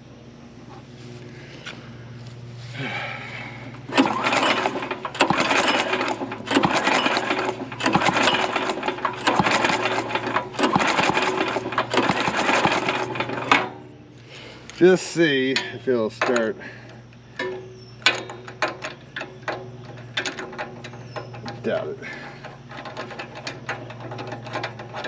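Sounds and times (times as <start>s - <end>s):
recoil starter pulls: 2.8s - 25.0s.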